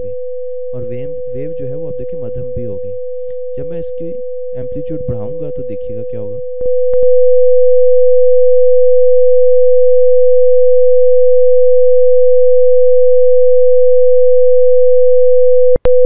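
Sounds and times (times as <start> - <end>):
steady pure tone: 0.0 - 16.0.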